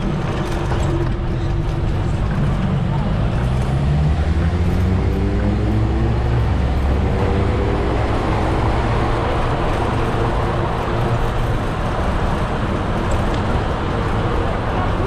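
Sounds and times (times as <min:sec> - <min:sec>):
city road traffic: 0:00.0 - 0:15.0.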